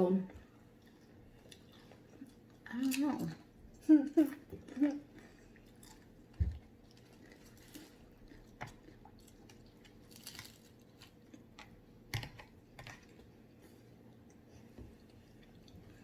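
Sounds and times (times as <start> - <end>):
chewing with small clicks: 0.3 - 16.0.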